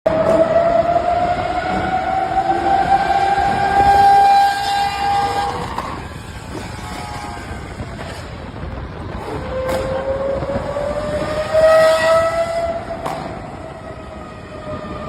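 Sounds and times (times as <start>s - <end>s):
car engine revving in a tunnel: 0.1s - 7.2s, 9.2s - 15.0s.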